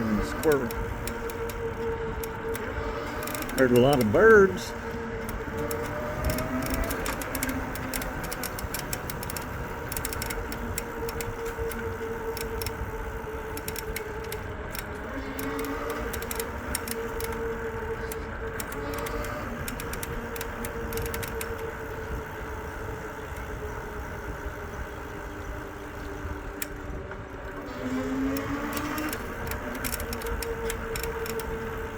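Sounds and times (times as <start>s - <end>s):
light rattling clicks: 0.0s - 22.2s, 25.2s - 31.9s
electric motor whine: 0.0s - 31.9s
low wind: 0.0s - 31.9s.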